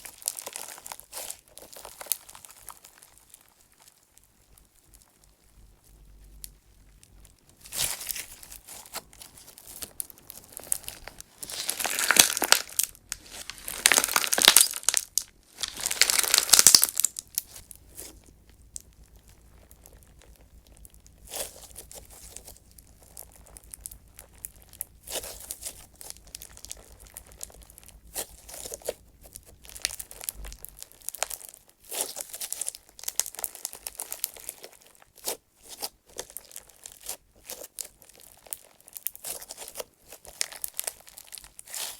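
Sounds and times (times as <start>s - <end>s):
slime squeezed by hand: 7.4s - 41.9s
gritty grinding of chips: 7.6s - 41.9s.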